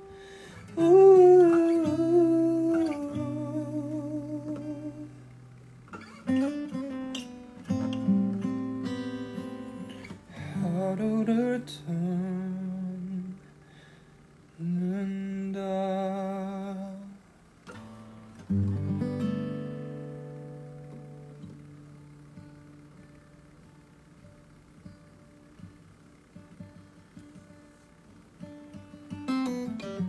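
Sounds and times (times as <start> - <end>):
acoustic guitar fingerpicked: 0.0 - 30.0.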